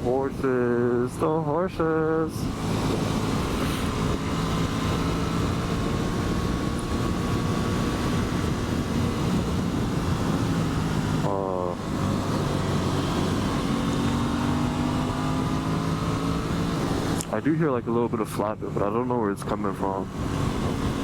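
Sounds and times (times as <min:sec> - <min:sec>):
motorcycle engine running: 0:00.0 - 0:18.8, 0:19.6 - 0:21.0
wind and road rush: 0:00.0 - 0:21.0.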